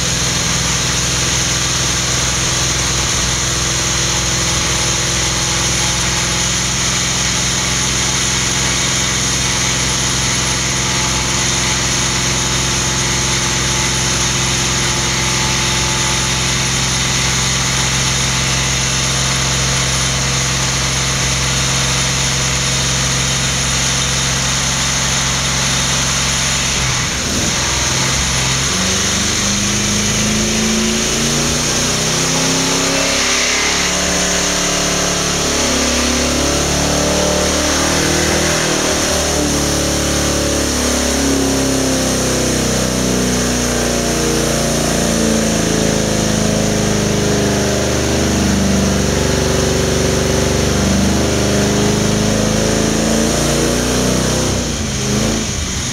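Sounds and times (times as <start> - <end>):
engine revving on a dyno: 0.0 - 55.9.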